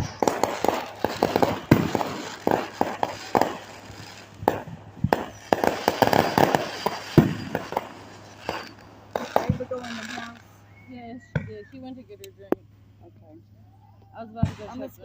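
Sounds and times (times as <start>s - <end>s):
fireworks bangs and crackling: 0.0s - 12.6s, 14.4s - 15.0s.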